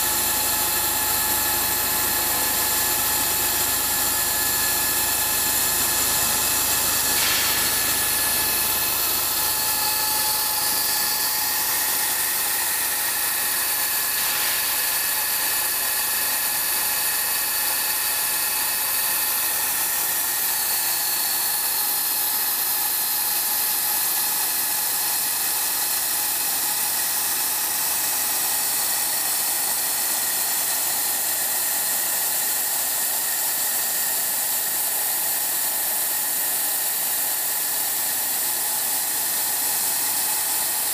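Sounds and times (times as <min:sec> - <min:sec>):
milling machine cutting metal: 0:00.0 - 0:40.9.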